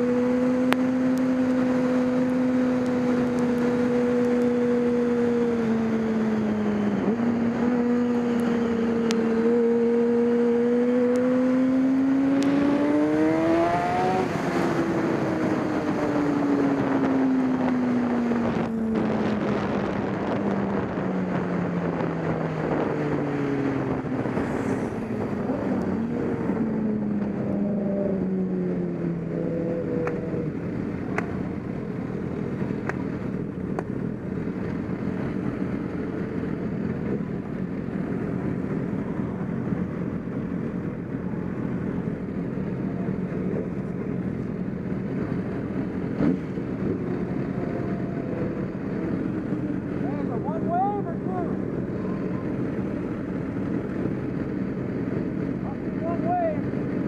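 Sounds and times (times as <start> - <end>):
racing motorcycle engine: 0.0 - 57.0
steady rush of noise: 0.0 - 57.0.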